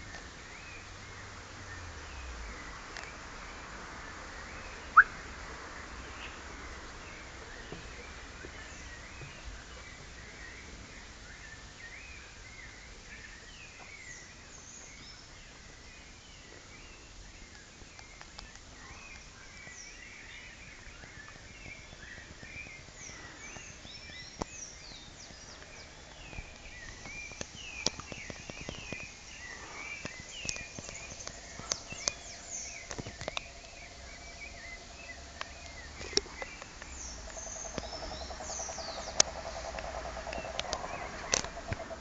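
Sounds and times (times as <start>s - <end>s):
wild birds chirping: 0.0s - 42.0s.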